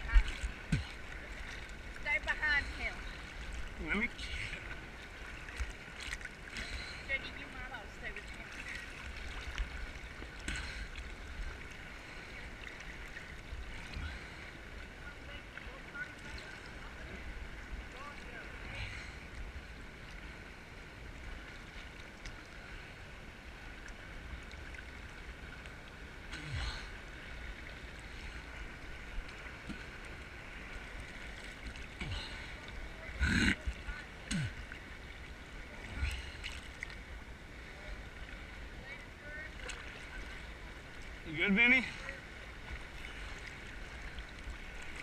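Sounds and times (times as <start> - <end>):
sea water sloshing and splashing: 0.0 - 45.0.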